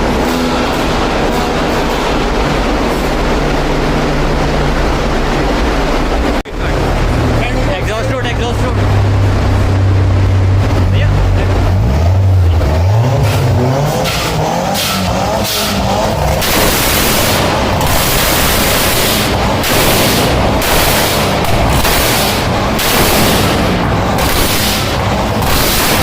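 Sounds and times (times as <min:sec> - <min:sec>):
car engine revving: 0:00.0 - 0:26.0
harsh exhaust blasts: 0:00.0 - 0:26.0.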